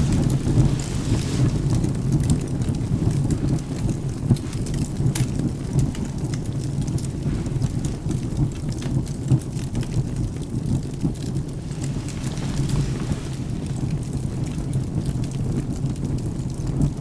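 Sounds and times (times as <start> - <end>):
thunder rumble: 0.0 - 16.1
rain: 0.0 - 17.0
wood fire crackling: 0.0 - 17.0.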